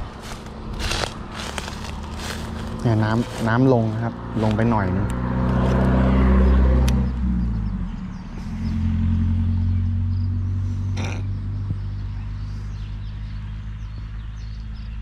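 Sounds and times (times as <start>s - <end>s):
motor vehicle engine humming: 0.0s - 15.0s.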